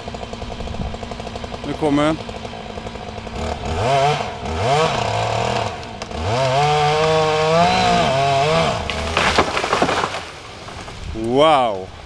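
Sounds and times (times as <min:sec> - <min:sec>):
chainsaw engine revving: 0:00.0 - 0:11.3.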